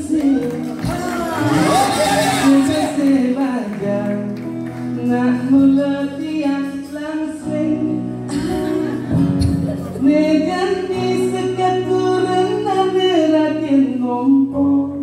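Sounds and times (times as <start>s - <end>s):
person singing long notes: 0.0s - 8.7s, 9.7s - 15.0s.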